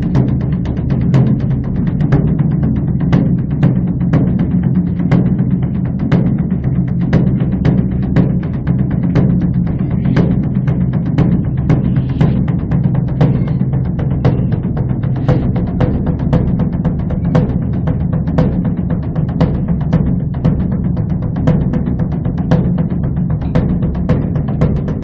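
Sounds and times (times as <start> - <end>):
large drum rolling rhythm: 0.0 - 25.0.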